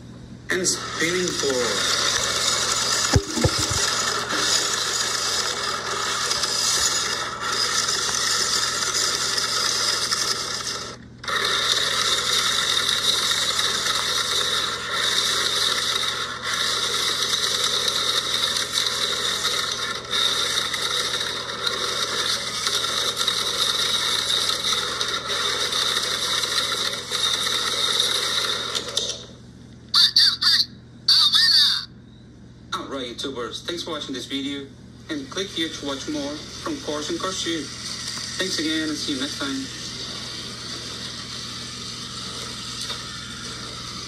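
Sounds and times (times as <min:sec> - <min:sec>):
plastic toy rubbing and rattling: 0:01.0 - 0:29.2, 0:35.4 - 0:44.0.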